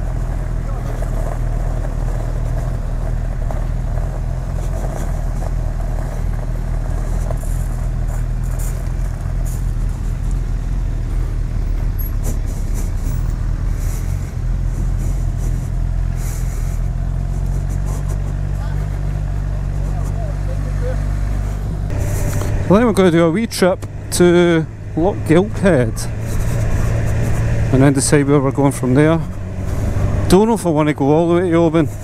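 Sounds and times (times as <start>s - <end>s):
motorcycle engine running steadily: 0.0s - 32.0s.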